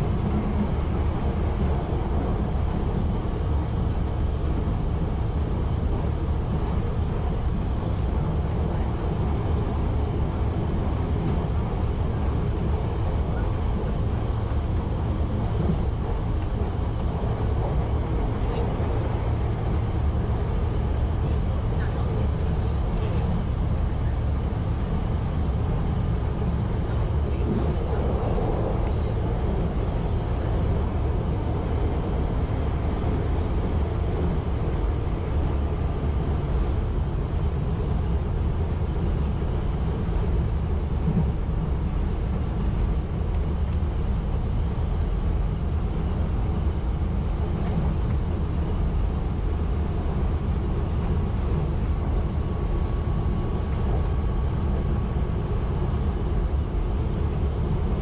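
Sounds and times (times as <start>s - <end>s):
railcar engine drone: 0.0s - 58.0s
wheels rumbling on track: 0.0s - 58.0s.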